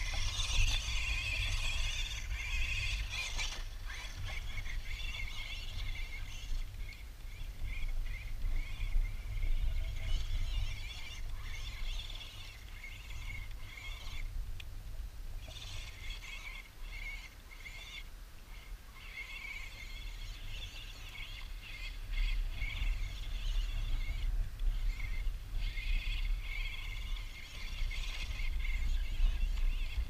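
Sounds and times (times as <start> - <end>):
toy car electric motor whining: 0.0 - 14.3, 15.4 - 30.0
wind rumbling on microphone: 0.0 - 30.0.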